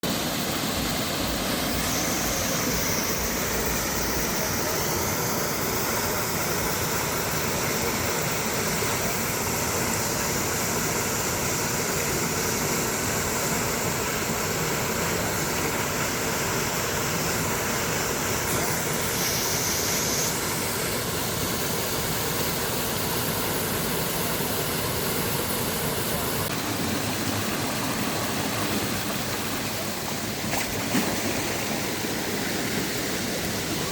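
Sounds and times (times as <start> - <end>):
water rushing through mill: 0.0 - 33.9.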